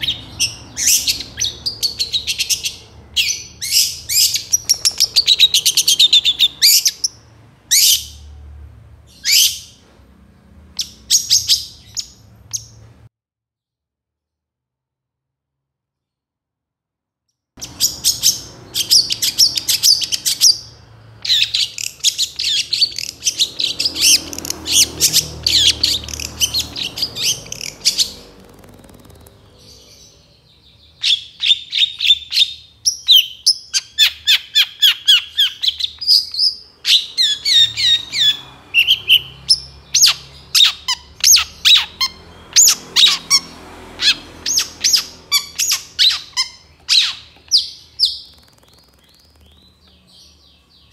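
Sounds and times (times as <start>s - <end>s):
bird chattering song: 0.0s - 8.3s, 10.8s - 12.8s, 17.6s - 50.9s.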